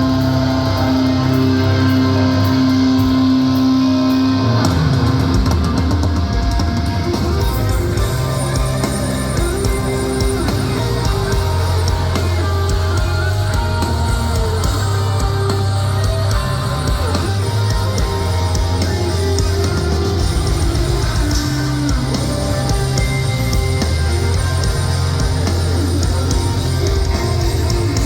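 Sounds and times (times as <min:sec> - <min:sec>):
distorted electric guitars: 0:00.0 - 0:28.0
drum kit: 0:00.0 - 0:28.0.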